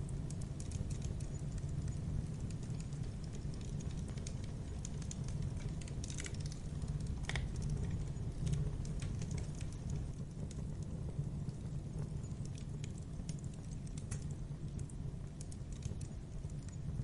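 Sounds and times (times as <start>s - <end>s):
campfire flames rumbling: 0.0s - 17.0s
loud fire pops: 0.0s - 17.0s
wood crackling: 0.0s - 17.0s.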